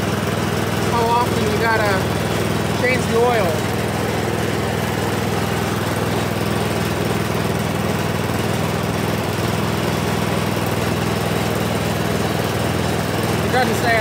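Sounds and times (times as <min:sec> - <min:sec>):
snowblower engine running: 0:00.0 - 0:14.0.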